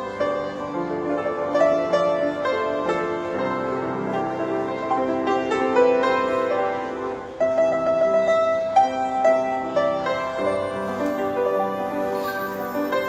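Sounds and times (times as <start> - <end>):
solo piano melody: 0.0 - 13.0.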